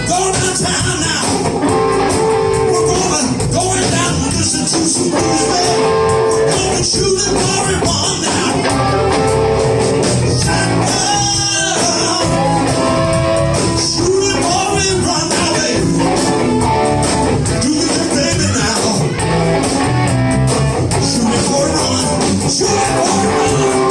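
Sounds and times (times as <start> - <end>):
blues band playing: 0.0 - 23.9
electric guitar lead melody: 0.0 - 23.9.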